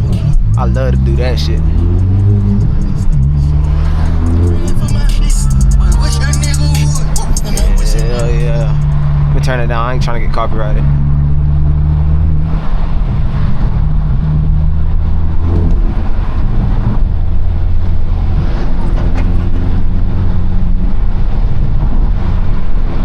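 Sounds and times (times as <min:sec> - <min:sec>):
car engine drone inside cabin: 0:00.0 - 0:23.0.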